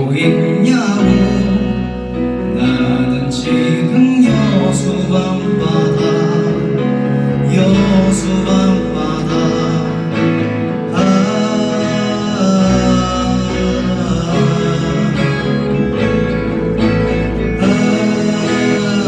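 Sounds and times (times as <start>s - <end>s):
deep bass line: 0.0s - 19.0s
guitar: 0.0s - 19.0s
live band playing pop ballad: 0.0s - 19.0s.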